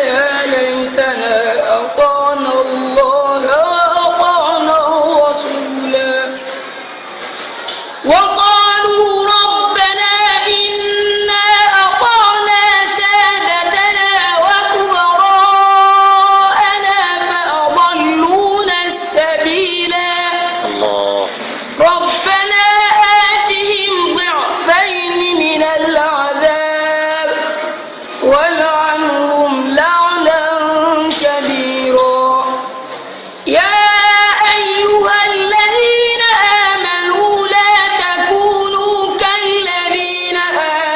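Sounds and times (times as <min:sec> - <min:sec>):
person reciting melodically: 0:00.0 - 0:06.6, 0:08.0 - 0:32.9, 0:33.5 - 0:40.9.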